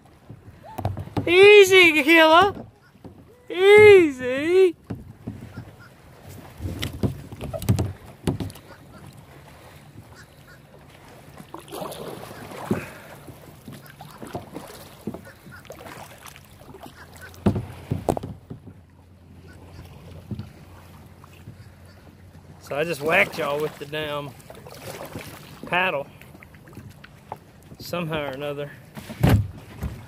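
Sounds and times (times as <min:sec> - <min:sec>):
paddle knocking against kayak: 0:00.0 - 0:28.2, 0:28.9 - 0:30.0
paddle splashing water: 0:00.0 - 0:30.0.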